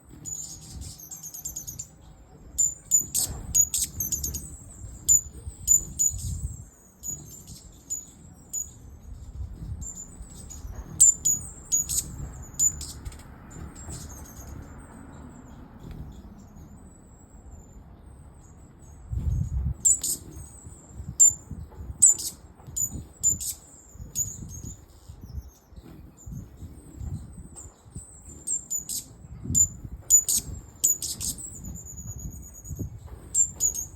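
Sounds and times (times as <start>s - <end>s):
hummingbirds chipping and twittering: 0.0s - 33.9s.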